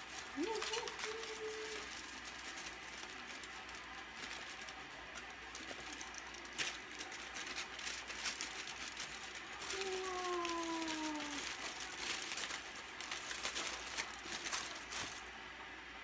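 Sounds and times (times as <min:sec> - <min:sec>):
aluminium foil crinkling: 0:00.0 - 0:15.4.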